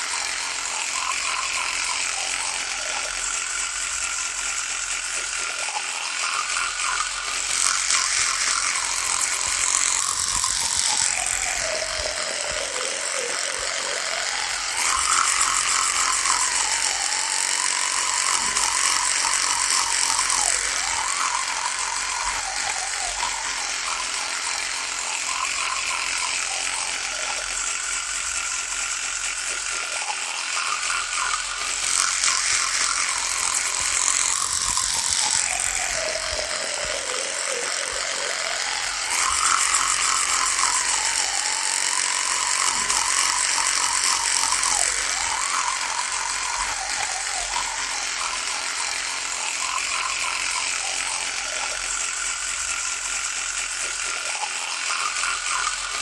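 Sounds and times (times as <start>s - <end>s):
electric toothbrush buzzing: 0.0s - 56.0s.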